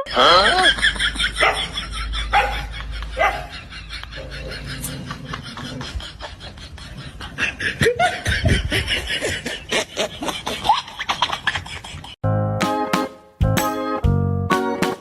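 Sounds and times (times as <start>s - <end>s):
person laughing: 0.0s - 12.2s.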